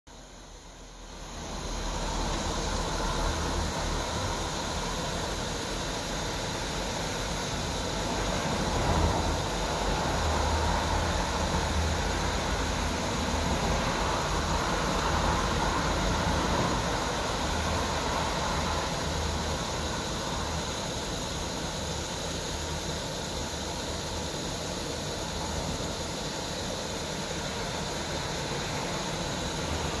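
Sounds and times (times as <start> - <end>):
pressure lantern hissing: 0.1 - 30.0.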